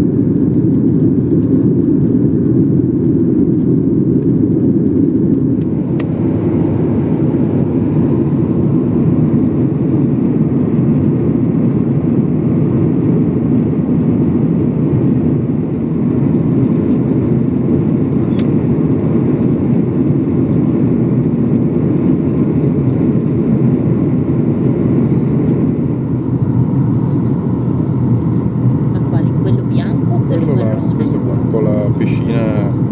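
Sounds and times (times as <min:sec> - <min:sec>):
airliner cabin engine roar: 0:00.0 - 0:32.9.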